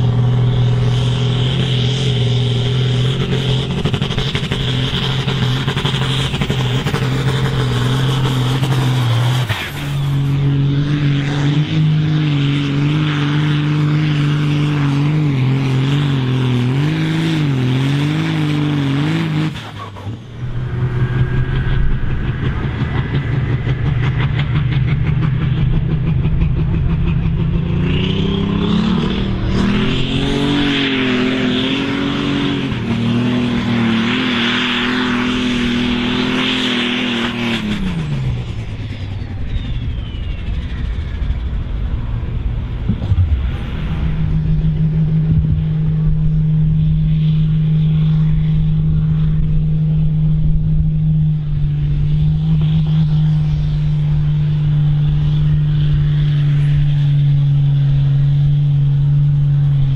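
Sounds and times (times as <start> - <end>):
tractor diesel engines under load: 0.0 - 59.9.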